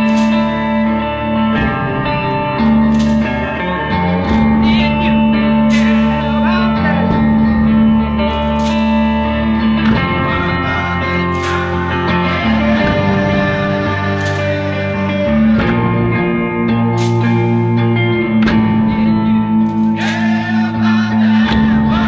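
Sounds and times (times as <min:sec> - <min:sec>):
electric guitar with reverb: 0:00.0 - 0:22.0.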